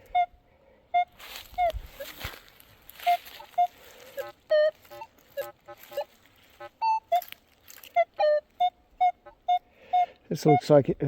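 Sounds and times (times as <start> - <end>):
metal detector beeping: 0.0 - 11.0.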